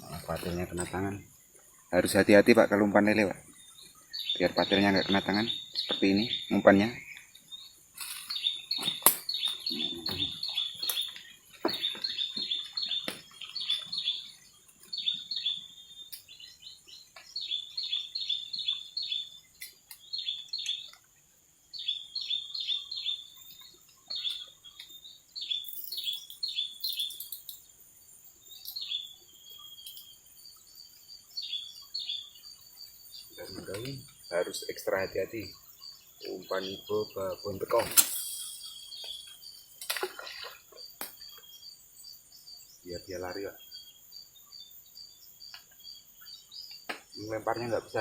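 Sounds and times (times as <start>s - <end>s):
small bird chirping: 0.0s - 48.0s.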